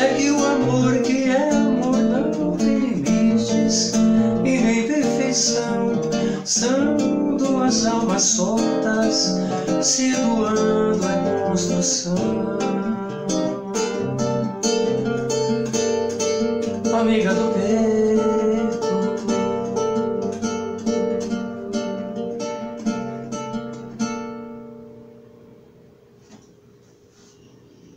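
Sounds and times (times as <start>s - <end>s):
classical guitar playing: 0.0s - 26.2s.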